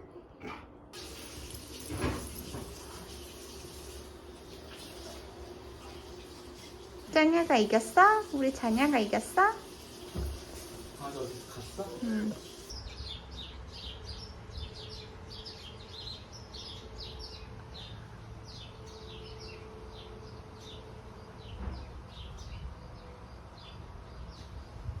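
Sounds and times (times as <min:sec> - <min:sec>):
small birds chirping: 0:01.0 - 0:25.0.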